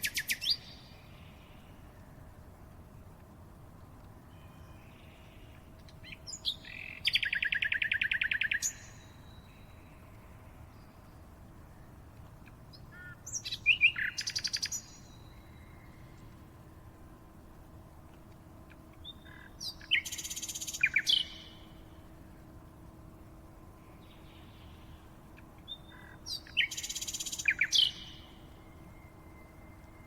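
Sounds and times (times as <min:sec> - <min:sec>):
songbird singing trills: 0:00.0 - 0:02.2, 0:04.2 - 0:17.2, 0:17.8 - 0:30.0
faint background hiss: 0:00.0 - 0:30.0.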